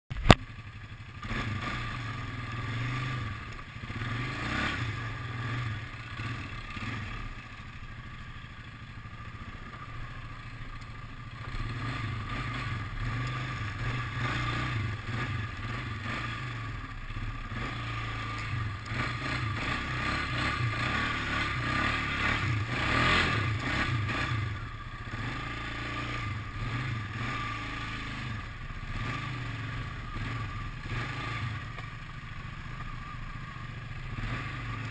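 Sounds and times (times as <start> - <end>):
quad bike engine revving: 0.1 - 34.9.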